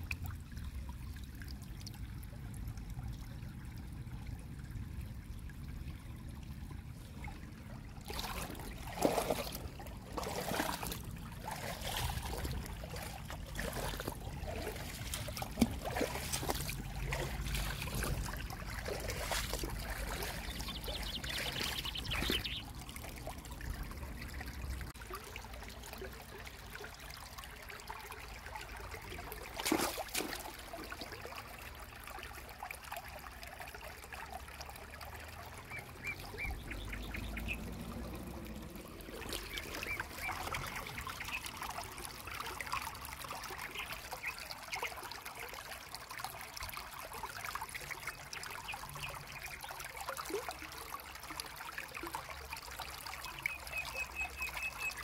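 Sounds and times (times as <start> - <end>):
creek water trickling over stones: 0.0 - 55.0.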